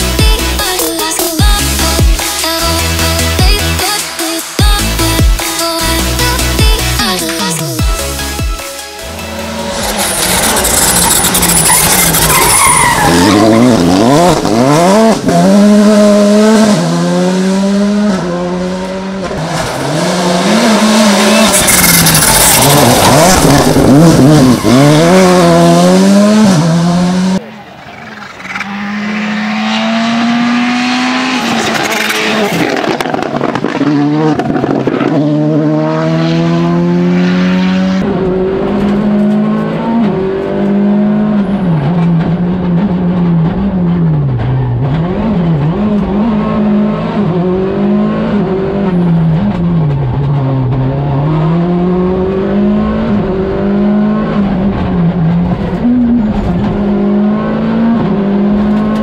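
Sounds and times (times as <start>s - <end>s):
rally car engine revving: 9.2s - 59.0s.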